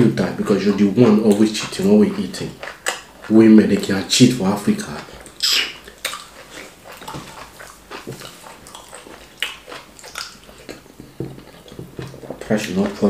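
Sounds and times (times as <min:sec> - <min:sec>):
wet mouth smacks and chewing: 0:00.7 - 0:03.9, 0:05.0 - 0:13.0.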